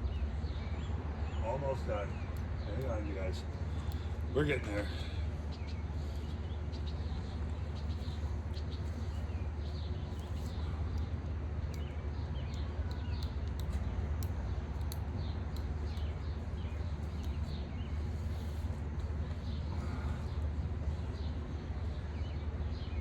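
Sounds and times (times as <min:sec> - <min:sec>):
songbirds chirping: 0:00.0 - 0:23.0
steady low rumble: 0:00.0 - 0:23.0.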